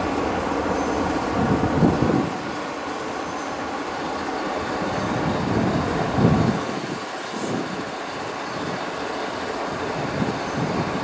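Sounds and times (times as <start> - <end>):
freight train wheels rumbling on rail: 0.0 - 11.0.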